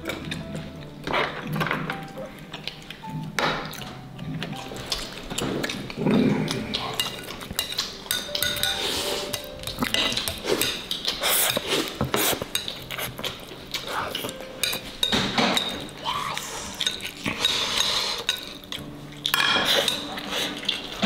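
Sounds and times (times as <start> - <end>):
utensils clinking on ceramic plates: 3.4 - 16.0, 16.6 - 21.0.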